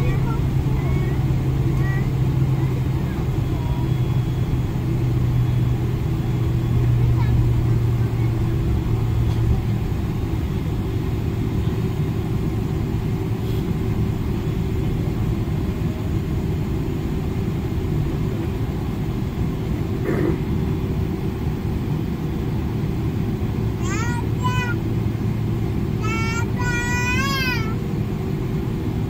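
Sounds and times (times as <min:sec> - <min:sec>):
jet engines rumbling: 0:00.0 - 0:29.0
steady cabin hum: 0:00.0 - 0:29.0.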